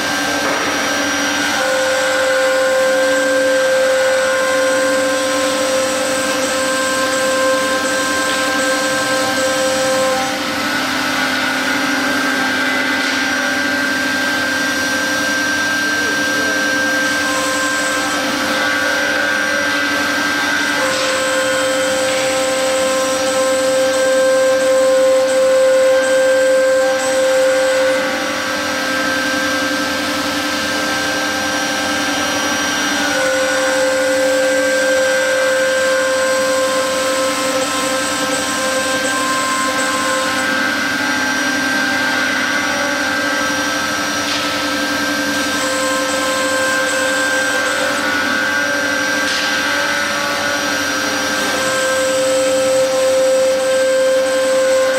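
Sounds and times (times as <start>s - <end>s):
bit cutting fibreboard: 0.0s - 54.8s
router spindle whine: 0.0s - 54.9s.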